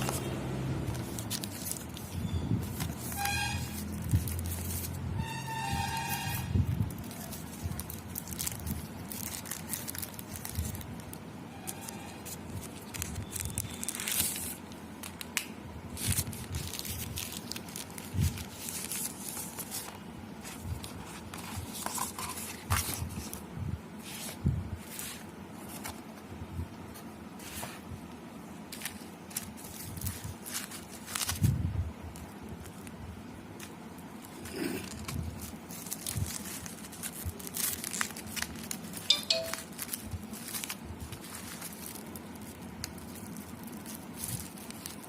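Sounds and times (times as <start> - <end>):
plastic wrap rustling and crinkling: 0.0 - 45.0.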